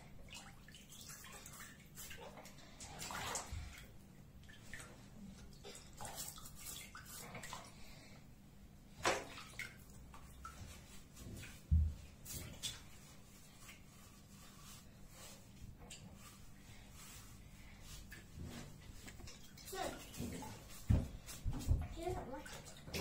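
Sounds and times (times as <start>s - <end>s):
water splashing in bathtub: 0.0s - 8.2s, 8.8s - 23.0s.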